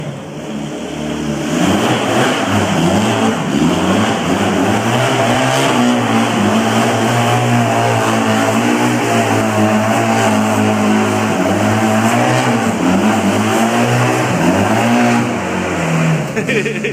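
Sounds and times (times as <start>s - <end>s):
engine revving: 0.0s - 16.9s.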